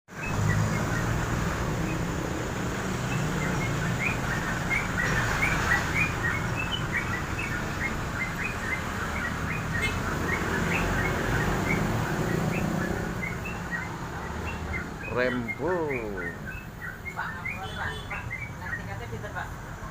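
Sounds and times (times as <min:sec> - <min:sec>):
songbirds chirping: 0:00.1 - 0:19.9.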